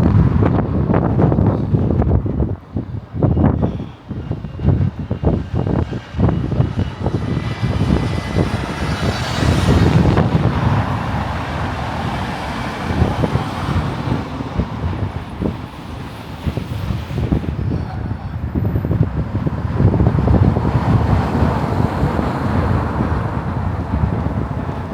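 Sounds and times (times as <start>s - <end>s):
road traffic passing: 0.0s - 24.9s
wind buffeting microphone: 0.0s - 24.9s.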